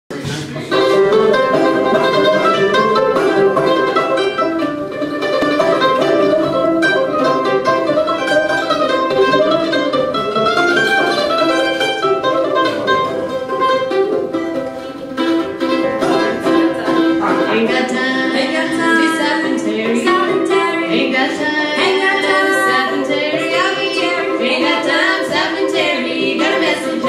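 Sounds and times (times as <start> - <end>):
banjo picking: 0.1 - 27.0
mandolin picking: 0.1 - 27.0
string band playing: 0.1 - 27.0.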